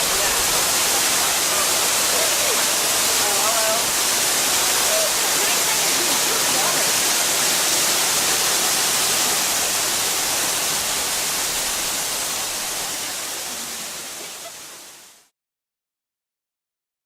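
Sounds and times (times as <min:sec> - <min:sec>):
steady rushing hiss: 0:00.0 - 0:15.2.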